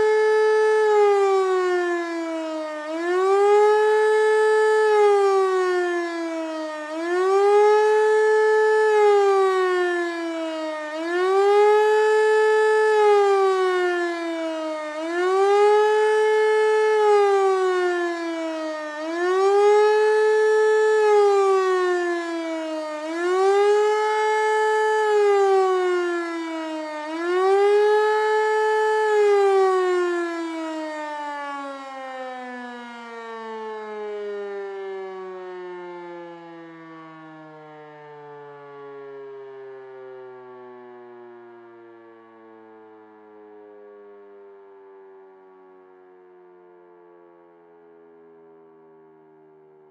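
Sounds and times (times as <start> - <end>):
siren rising and falling: 0.0 - 49.9.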